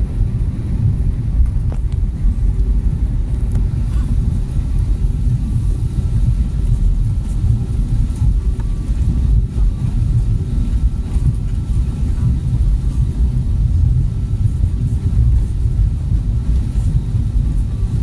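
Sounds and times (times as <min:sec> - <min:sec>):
jet engine and airflow rumble: 0:00.0 - 0:18.0.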